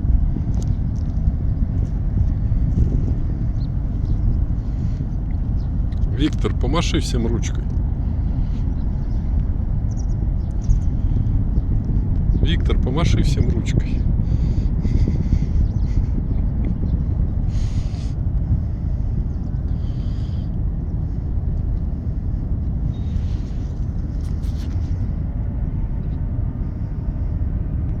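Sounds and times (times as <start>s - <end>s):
loud low rumble: 0.0s - 28.0s.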